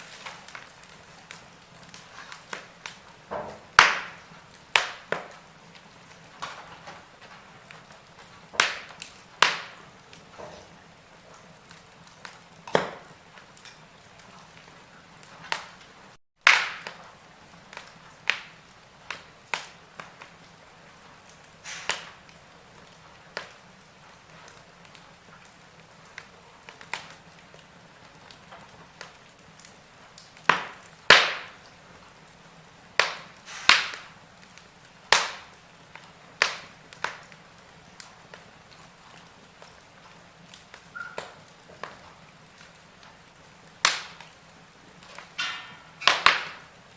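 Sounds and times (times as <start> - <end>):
low steady hiss: 0.0 - 46.9
wood fire crackling and popping: 0.0 - 46.9.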